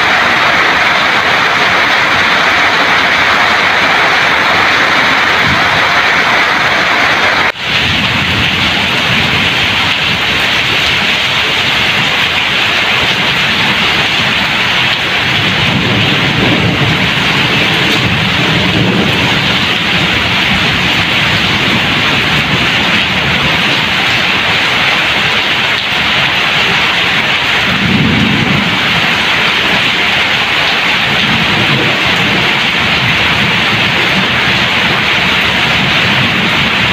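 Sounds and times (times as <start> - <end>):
heavy rain on foliage: 0.0 - 36.9
low rumbles: 0.0 - 36.9.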